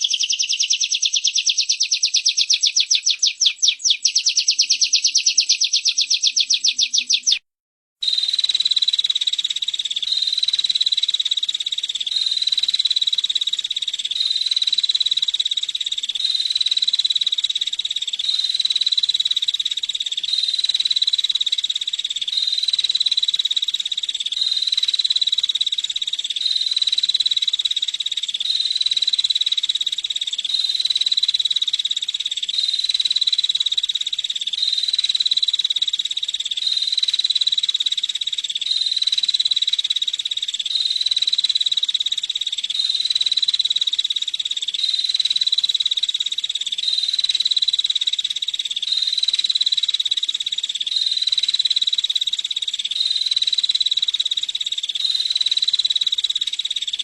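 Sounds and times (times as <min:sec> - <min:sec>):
songbird trilling: 0:00.0 - 0:07.4, 0:08.0 - 0:57.0.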